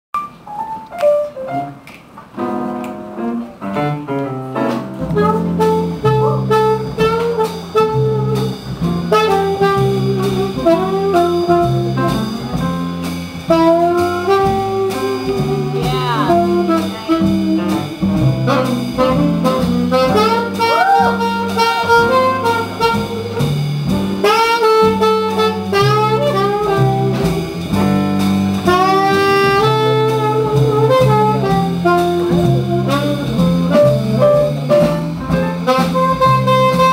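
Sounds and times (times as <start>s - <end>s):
walking bass line: 3.7s - 36.9s
saxophone melody: 3.8s - 36.9s.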